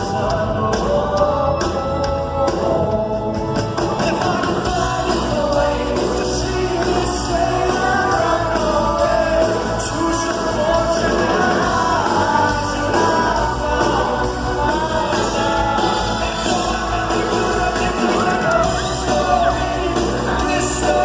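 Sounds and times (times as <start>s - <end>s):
live band playing: 0.0s - 21.0s
man singing: 0.0s - 21.0s.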